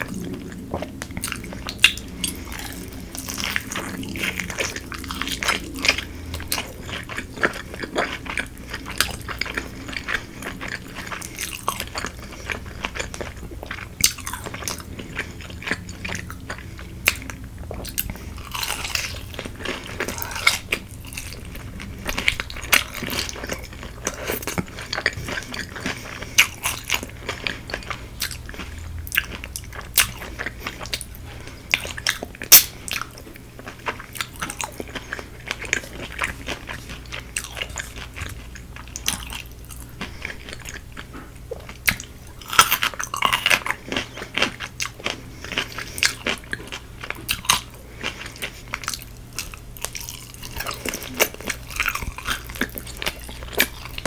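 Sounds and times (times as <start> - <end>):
crunching fried chicken: 0.0 - 54.0.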